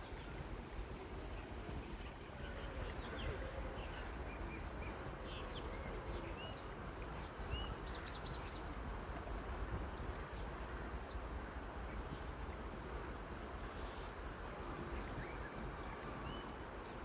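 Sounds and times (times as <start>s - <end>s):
outdoor noise: 0.0s - 17.0s.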